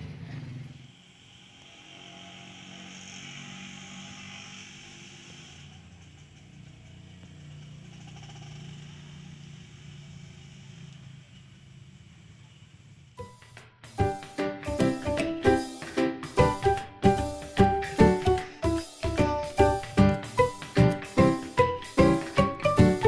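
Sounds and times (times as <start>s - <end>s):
hiss: 0.2s - 23.0s.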